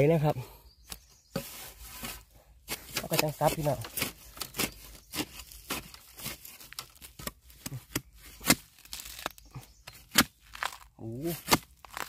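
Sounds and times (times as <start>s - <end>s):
spade chopping into soil: 0.9s - 12.0s.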